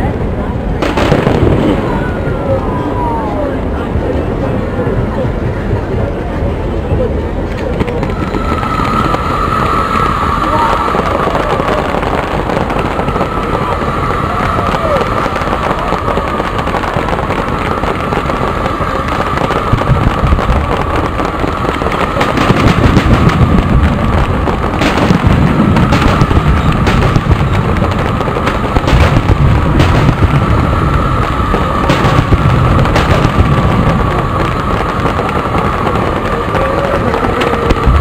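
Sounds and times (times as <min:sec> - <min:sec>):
fireworks crackling and popping: 0:00.0 - 0:04.4, 0:06.6 - 0:38.0
low rolling rumble: 0:00.0 - 0:38.0
fireworks bangs: 0:00.7 - 0:03.2, 0:07.6 - 0:38.0.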